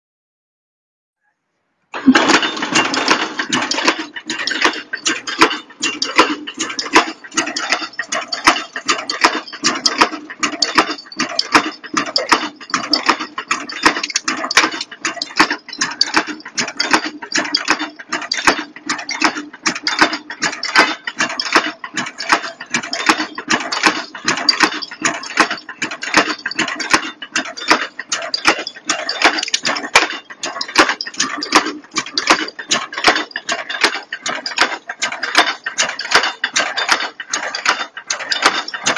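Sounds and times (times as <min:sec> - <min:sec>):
machine clattering metal strokes: 0:01.9 - 0:38.9.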